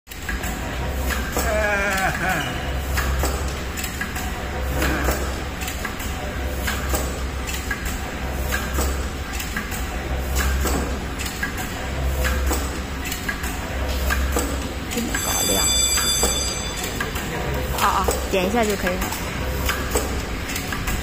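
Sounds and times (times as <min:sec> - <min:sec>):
low machine hum: 0:00.1 - 0:21.0.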